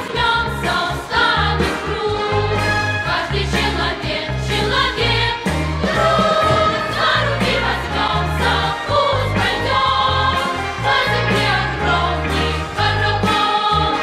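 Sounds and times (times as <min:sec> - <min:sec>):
bass line: 0:00.0 - 0:14.0
choir-like melodic lines: 0:00.0 - 0:14.0.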